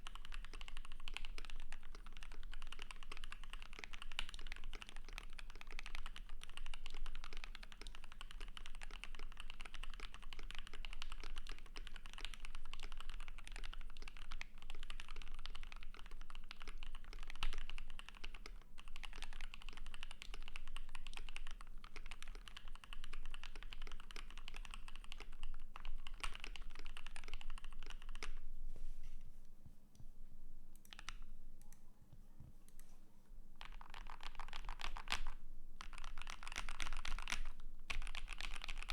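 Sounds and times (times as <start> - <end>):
mechanical keyboard typing: 0.0 - 28.4, 30.8 - 31.8, 33.6 - 38.9.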